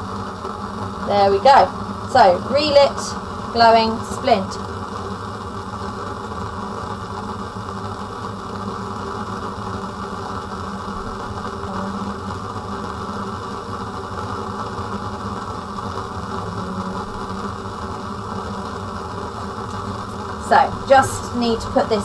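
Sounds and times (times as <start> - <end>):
fume extraction running: 0.0 - 22.0
gas burner flame roaring: 0.0 - 22.0.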